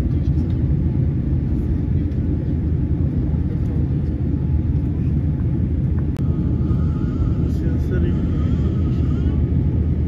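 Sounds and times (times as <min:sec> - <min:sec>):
jet cabin rumble: 0:00.0 - 0:10.0.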